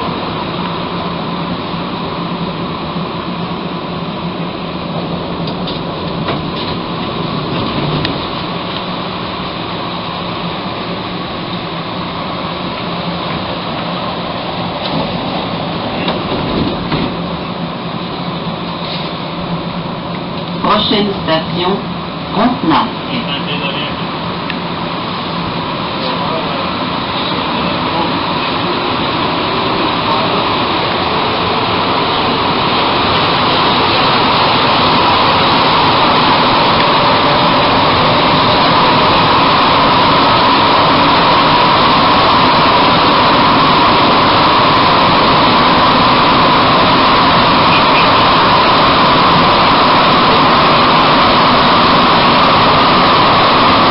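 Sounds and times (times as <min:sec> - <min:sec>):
train car running rumble: 0:00.0 - 0:53.9.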